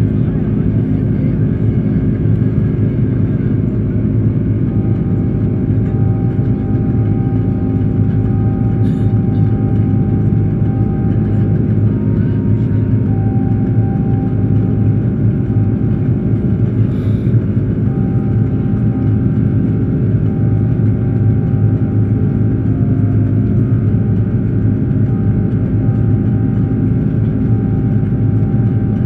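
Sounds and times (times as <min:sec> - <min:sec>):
airplane cabin engine rumble: 0:00.0 - 0:29.0
constant tones: 0:00.0 - 0:29.0.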